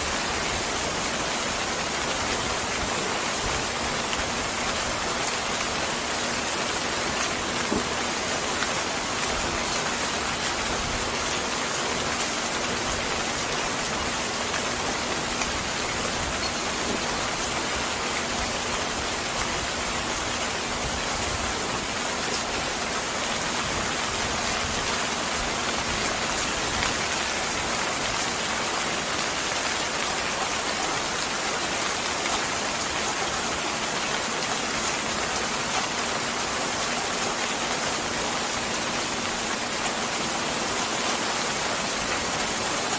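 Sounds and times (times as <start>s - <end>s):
rain pattering on a surface: 0.0s - 42.9s.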